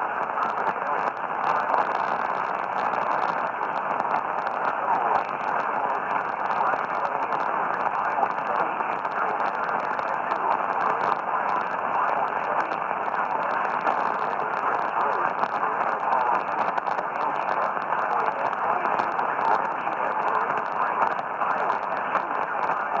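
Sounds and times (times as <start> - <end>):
radio static hiss with crackles: 0.0 - 23.0.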